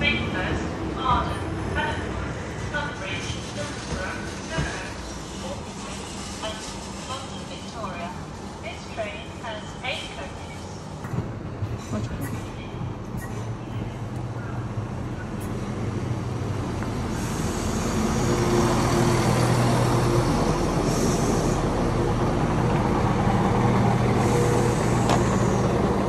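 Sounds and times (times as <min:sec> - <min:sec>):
train diesel engines humming: 0:00.0 - 0:26.0.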